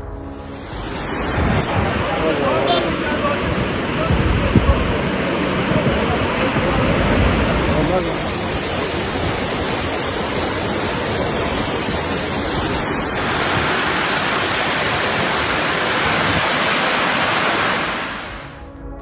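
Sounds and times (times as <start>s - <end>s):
floodwater rushing: 0.0s - 18.6s.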